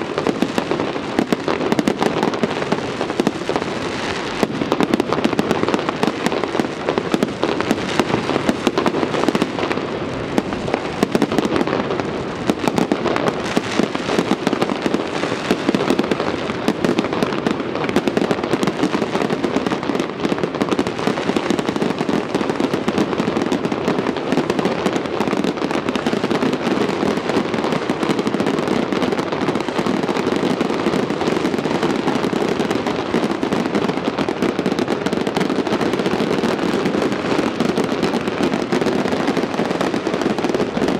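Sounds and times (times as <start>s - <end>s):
fireworks popping and banging: 0.0s - 40.9s.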